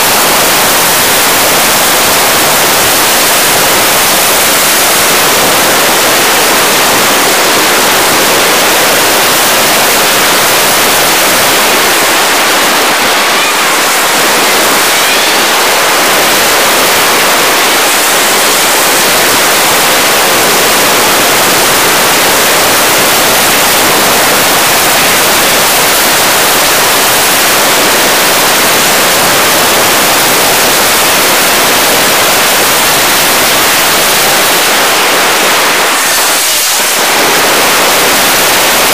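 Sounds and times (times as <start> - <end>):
steady static hiss: 0.0 - 38.9.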